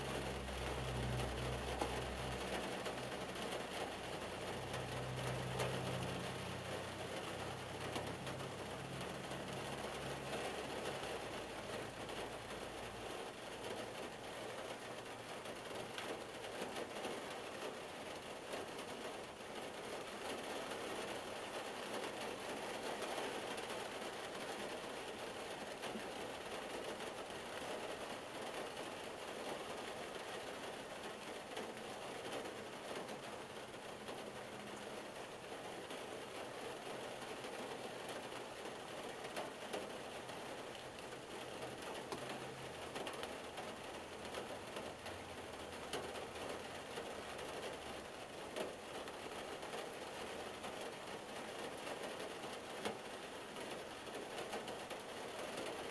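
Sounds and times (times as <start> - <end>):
rain pattering on car roof: 0.0 - 55.9.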